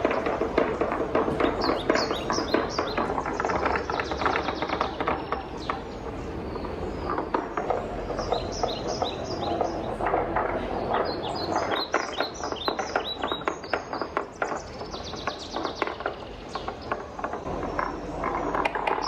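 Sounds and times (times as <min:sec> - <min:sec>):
wooden balls clattering down run: 0:00.0 - 0:19.0.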